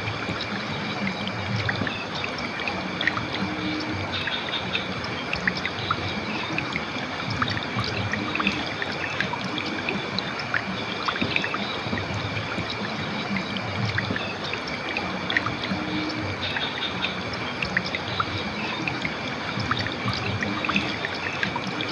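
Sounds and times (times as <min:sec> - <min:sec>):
river water flowing: 0:00.0 - 0:21.9.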